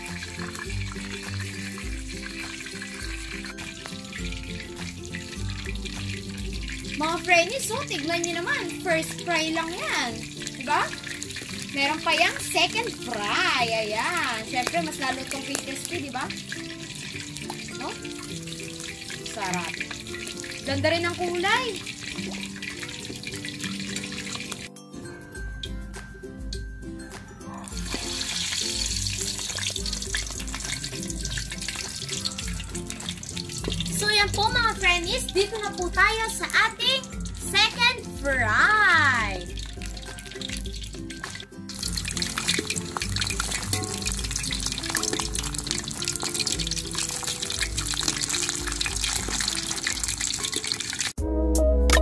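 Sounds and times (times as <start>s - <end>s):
meat sizzling in hot oil: 0.0s - 26.1s, 27.0s - 51.2s
background music: 0.0s - 52.0s.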